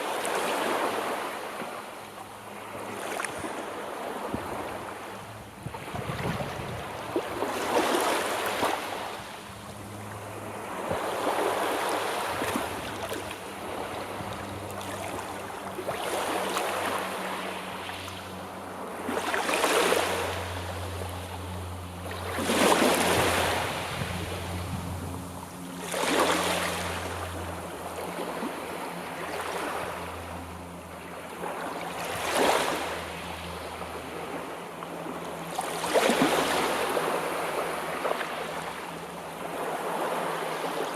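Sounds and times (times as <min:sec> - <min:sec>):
sea waves breaking: 0:00.0 - 0:40.9.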